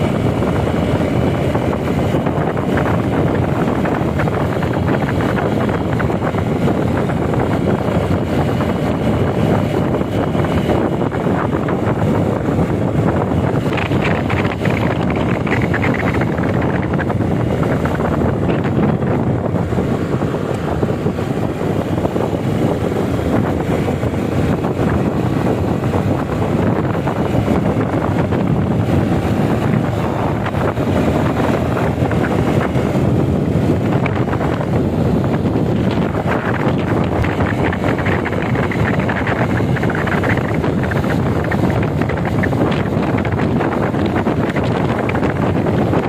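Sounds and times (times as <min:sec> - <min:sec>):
vehicle and road noise: 0:00.0 - 0:46.0
wind rushing over microphone: 0:00.0 - 0:46.0.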